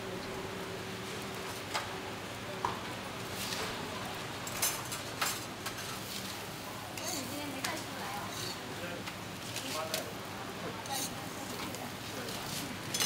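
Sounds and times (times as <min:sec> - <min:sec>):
flatbreads sizzling in oil: 0:00.0 - 0:13.0.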